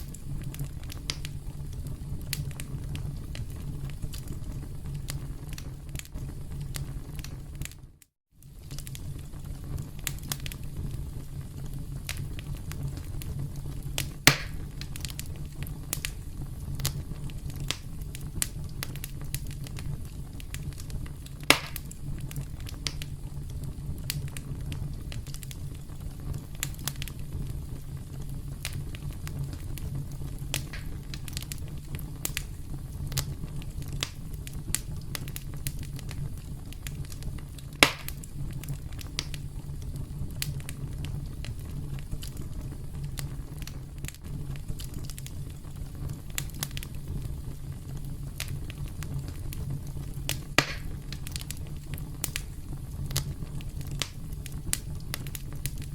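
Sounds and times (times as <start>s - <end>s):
loud fire pops: 0.0s - 55.9s
wood fire crackling: 0.0s - 55.9s.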